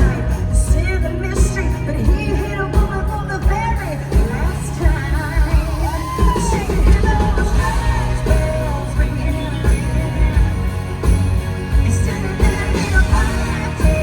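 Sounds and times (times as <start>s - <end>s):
country band playing: 0.0s - 14.0s
woman singing: 0.0s - 14.0s.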